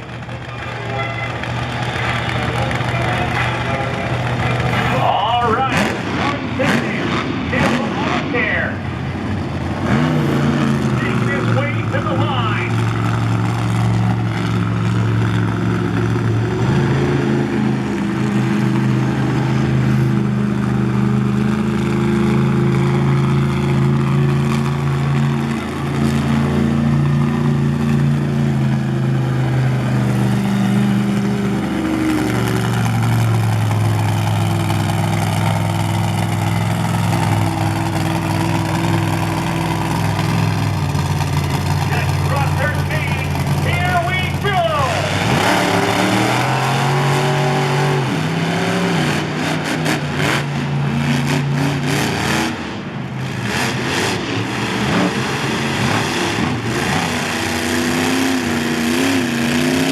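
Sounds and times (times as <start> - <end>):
monster truck engines revving: 0.0 - 59.9.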